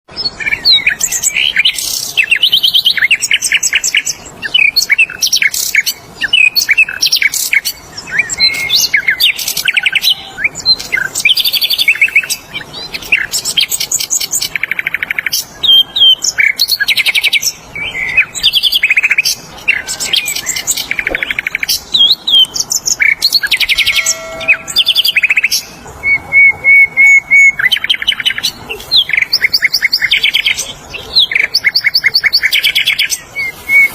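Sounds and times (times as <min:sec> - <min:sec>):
lower whistled bird notes: 0:00.1 - 0:33.9
flycatcher singing: 0:00.2 - 0:33.9.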